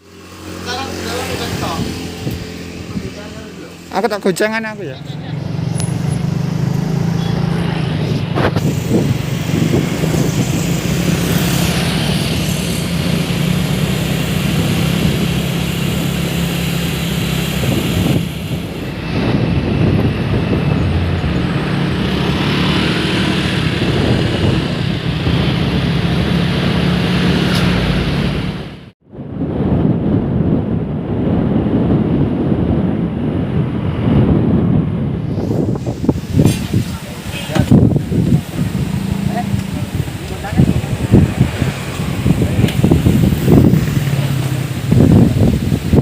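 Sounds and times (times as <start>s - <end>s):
motorcycle engine revving high: 0.0s - 46.0s.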